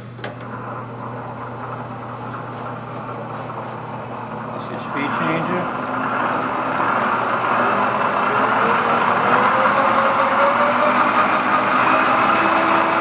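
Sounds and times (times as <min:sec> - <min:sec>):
lathe whine rising in pitch: 0:00.6 - 0:13.0.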